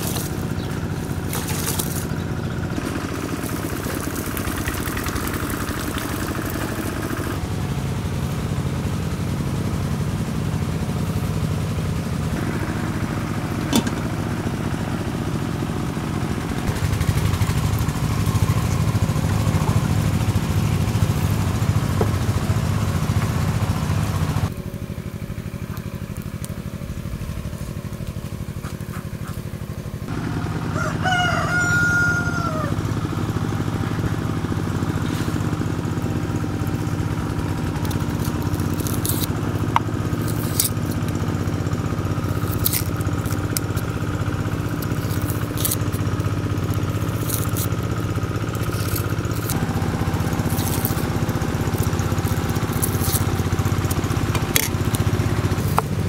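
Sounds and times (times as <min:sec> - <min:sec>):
small engine humming: 0:00.0 - 0:56.0.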